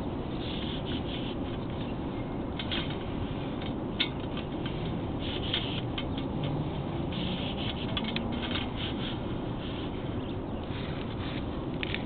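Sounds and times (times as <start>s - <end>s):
low rumble of cable in pipe: 0.0s - 12.0s.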